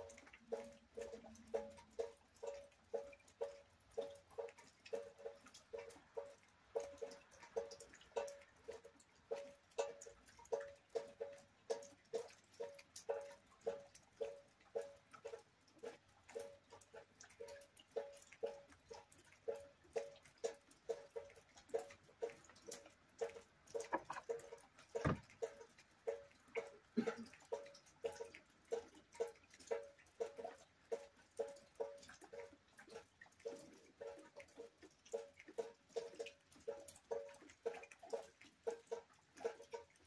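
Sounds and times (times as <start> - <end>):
water drops plopping: 0.0 - 40.0.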